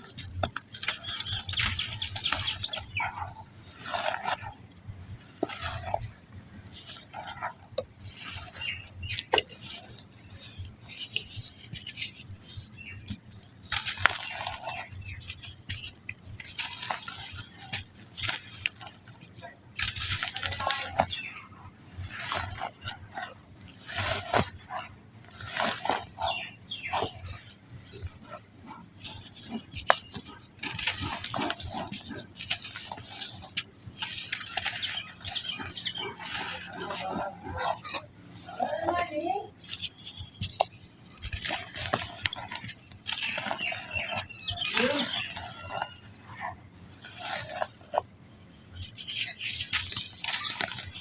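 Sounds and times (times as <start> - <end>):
sand crumbling and crunching: 0.0 - 51.0.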